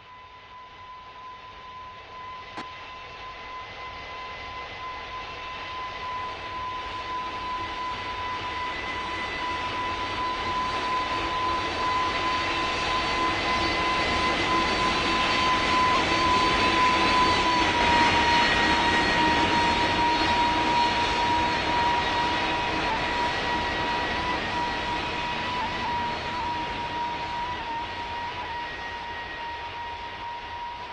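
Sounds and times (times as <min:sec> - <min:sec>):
jet aircraft passing: 0:01.7 - 0:30.9.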